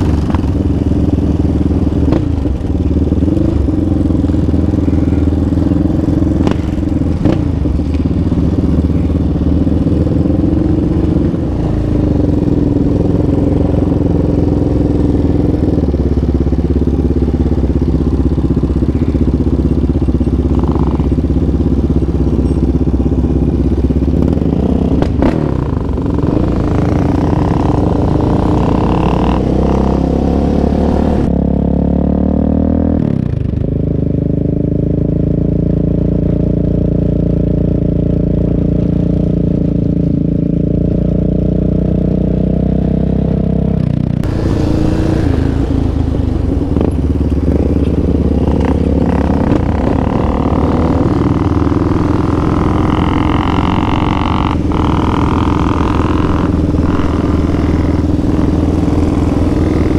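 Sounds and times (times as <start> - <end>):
atv engine revving: 0.0 - 33.2, 36.5 - 59.9.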